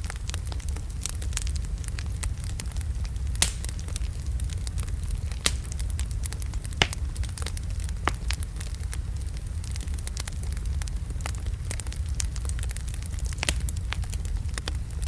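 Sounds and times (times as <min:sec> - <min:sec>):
fire rumbling: 0:00.0 - 0:15.0
wood fire crackling and popping: 0:00.0 - 0:15.0.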